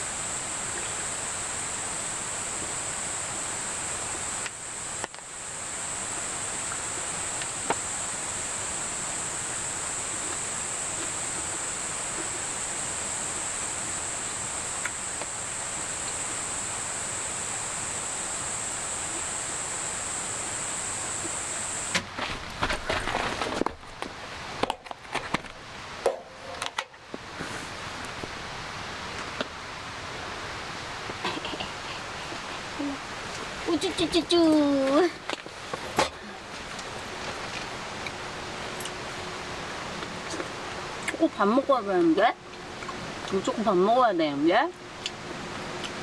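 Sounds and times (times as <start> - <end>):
high even hiss: 0.0 - 22.0, 25.9 - 45.8.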